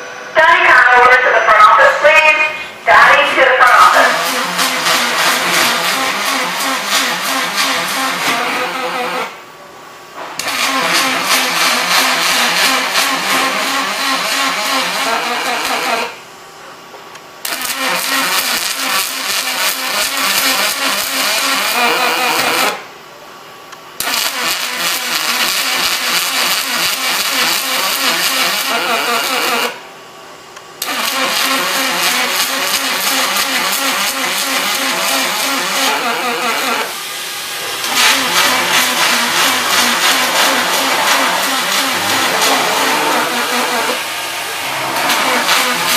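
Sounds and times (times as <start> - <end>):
welding arc crackling buzz: 3.6 - 9.4, 10.4 - 16.2, 17.4 - 22.8, 24.0 - 29.8, 30.8 - 45.9.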